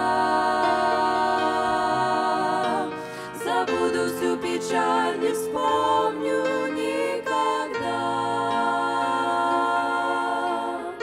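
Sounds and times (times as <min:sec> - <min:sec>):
women singing in close harmony: 0:00.0 - 0:11.0.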